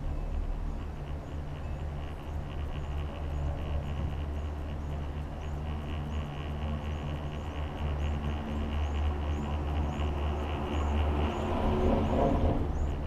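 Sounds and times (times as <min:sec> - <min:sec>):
gondola cabin droning on cable: 0:00.0 - 0:13.0.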